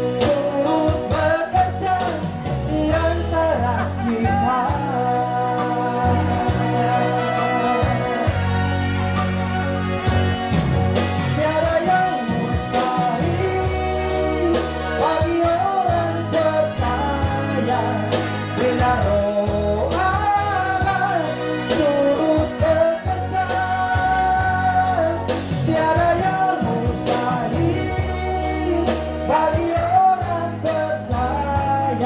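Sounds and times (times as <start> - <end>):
man singing worship song: 0.0 - 8.8, 11.2 - 32.0
backing track with bass line: 0.0 - 32.0.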